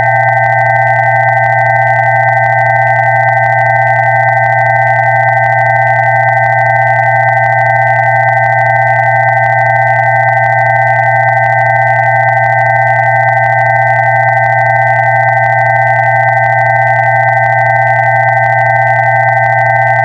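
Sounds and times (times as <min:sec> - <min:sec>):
electronic sine tones: 0:00.0 - 0:20.0.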